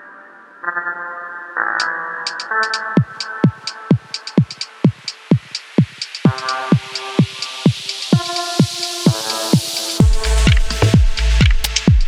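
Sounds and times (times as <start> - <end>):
electronic music with kick drums: 1.8 - 12.0.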